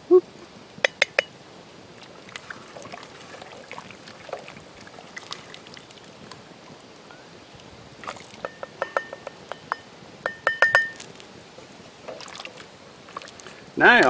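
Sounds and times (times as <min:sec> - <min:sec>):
campfire crackling and popping: 0:00.3 - 0:14.0.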